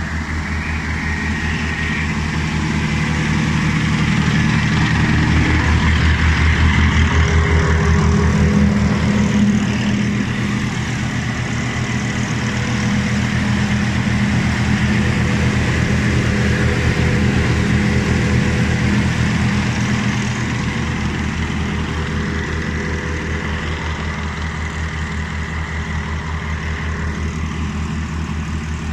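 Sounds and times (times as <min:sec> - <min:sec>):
faint high whine: 0:00.0 - 0:28.9
harvester engine drone: 0:00.0 - 0:28.9.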